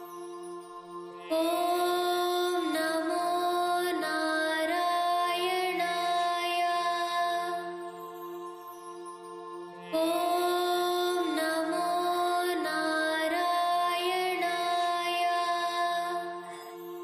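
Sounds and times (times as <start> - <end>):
person singing a chant: 1.2 - 7.9, 9.8 - 16.8.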